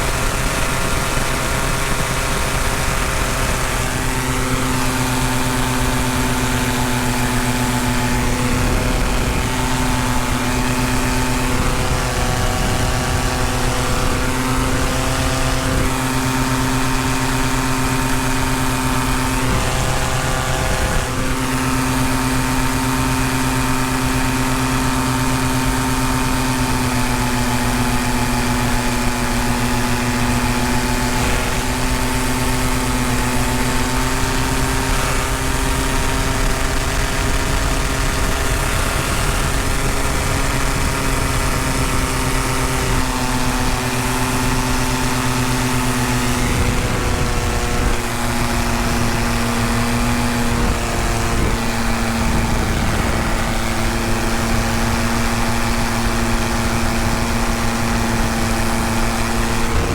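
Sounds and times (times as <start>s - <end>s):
paramotor engine drone: 0.0s - 59.9s.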